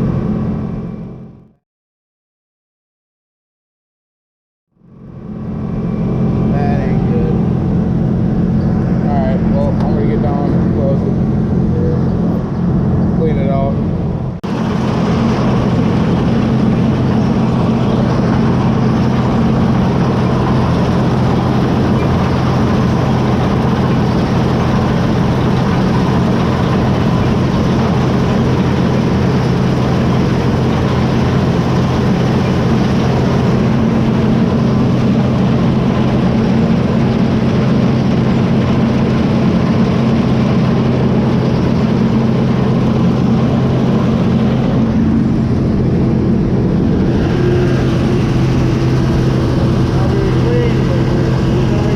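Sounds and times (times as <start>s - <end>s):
combine harvester engine humming: 0.0s - 1.6s, 4.8s - 51.9s
threshing machinery noise: 0.0s - 1.6s, 4.8s - 51.9s.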